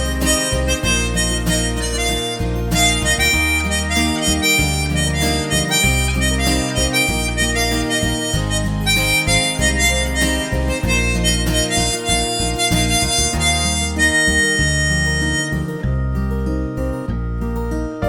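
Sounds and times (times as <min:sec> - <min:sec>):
harmonica playing a slow melody: 0:00.0 - 0:17.8
low bass notes: 0:00.0 - 0:18.0.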